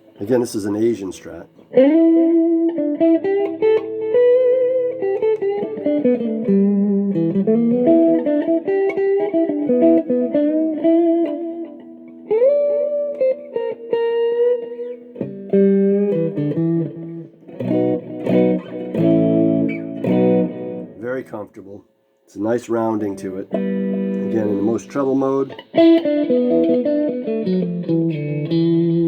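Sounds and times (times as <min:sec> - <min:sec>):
clean electric guitar: 0:00.0 - 0:21.4, 0:23.0 - 0:29.0.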